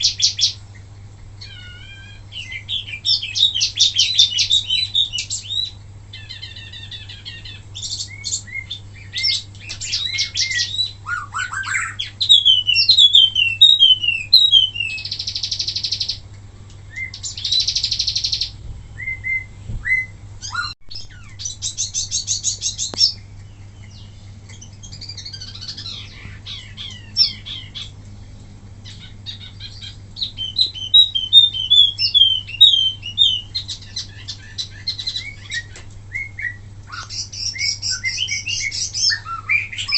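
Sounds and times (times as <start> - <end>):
low steady hum: 0.0 - 39.9
songbird singing: 0.0 - 39.9.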